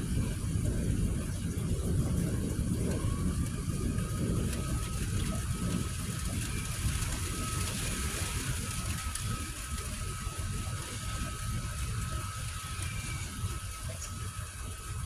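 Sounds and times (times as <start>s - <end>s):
faint thin whine: 0.0s - 15.0s
wind buffeting microphone: 0.0s - 15.0s.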